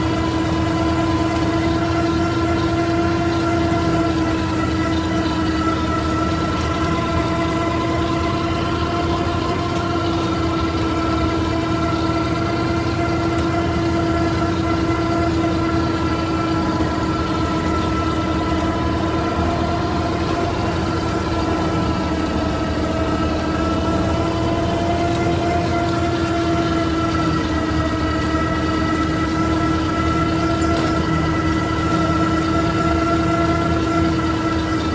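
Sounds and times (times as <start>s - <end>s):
flail mulcher whine: 0.0s - 34.9s
tractor diesel engine drone: 0.0s - 34.9s.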